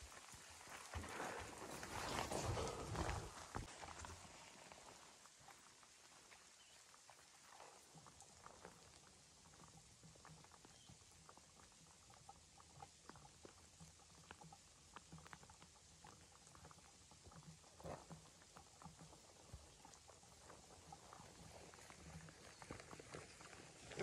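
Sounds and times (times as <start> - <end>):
light rain pattering: 0.0 - 24.0.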